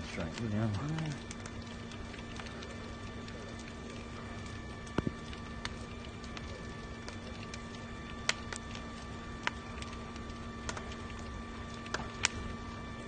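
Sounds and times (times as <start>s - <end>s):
fire crackling and popping: 0.0s - 13.0s
steady low hum: 0.0s - 13.0s.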